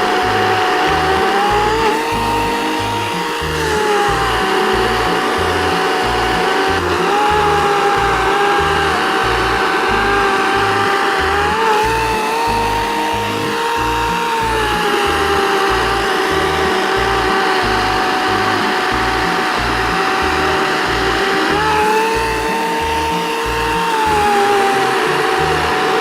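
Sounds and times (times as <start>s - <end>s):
electric chainsaw cutting wood: 0.0s - 26.0s.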